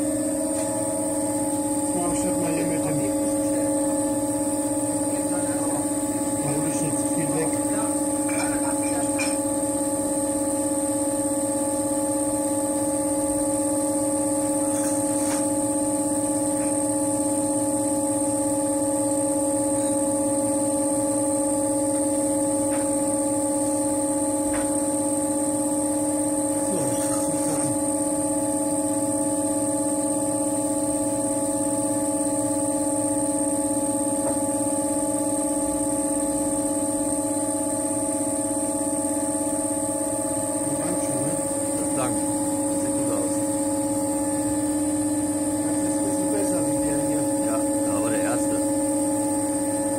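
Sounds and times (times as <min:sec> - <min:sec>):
potter's wheel humming: 0:00.0 - 0:49.9.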